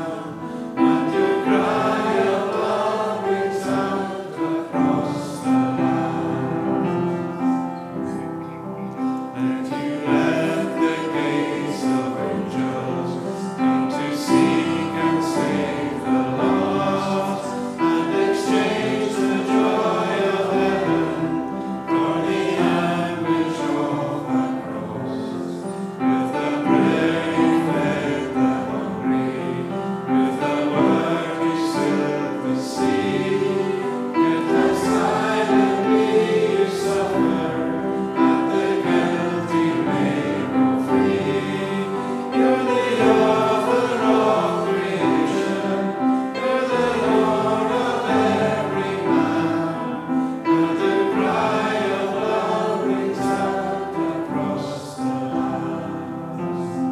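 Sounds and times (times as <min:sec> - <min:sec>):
congregation singing a hymn: 0:00.0 - 0:56.9.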